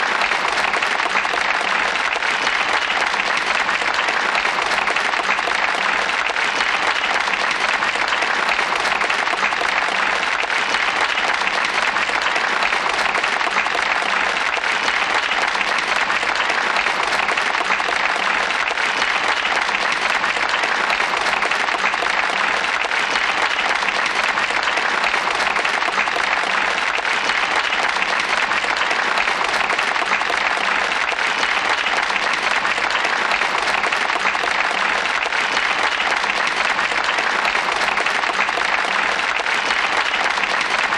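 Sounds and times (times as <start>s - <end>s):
crowd applauding: 0.0s - 40.9s.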